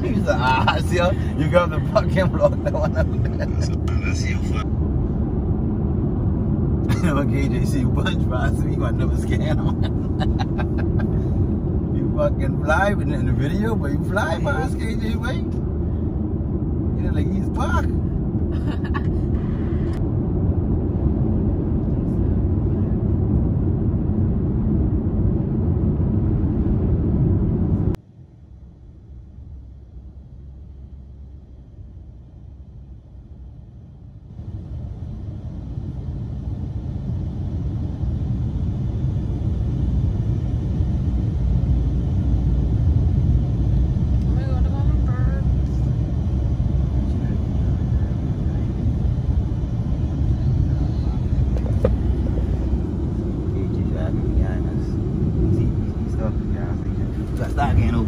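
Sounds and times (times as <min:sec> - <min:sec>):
car road rumble: 0:00.0 - 0:58.0
low hum: 0:00.0 - 0:58.0.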